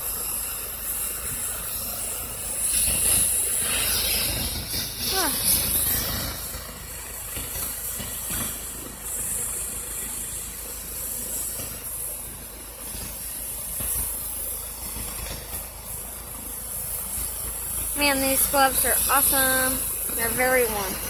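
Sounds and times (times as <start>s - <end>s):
helicopter turbine running: 0.0s - 21.0s.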